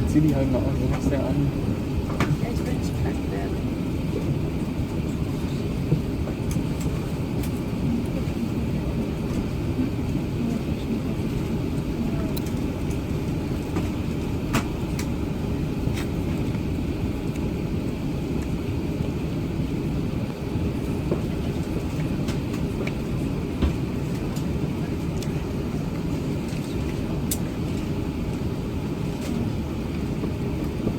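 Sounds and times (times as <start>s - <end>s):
airplane cabin rumble: 0.0s - 30.9s.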